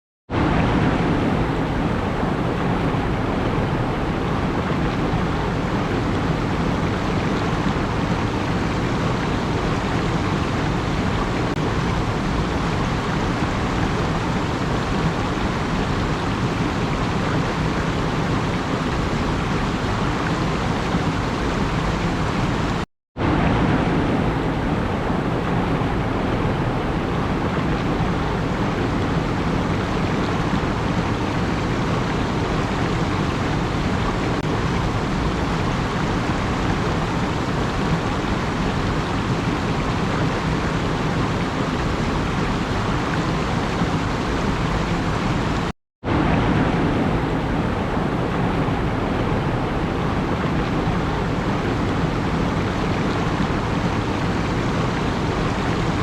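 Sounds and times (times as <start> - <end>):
steady rushing noise: 0.3 - 56.0.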